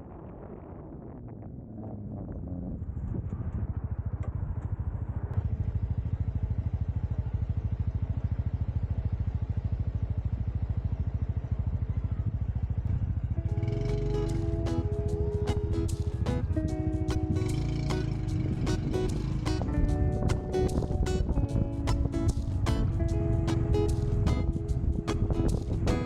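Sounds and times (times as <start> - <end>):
motorcycle engine running: 1.1 - 26.0.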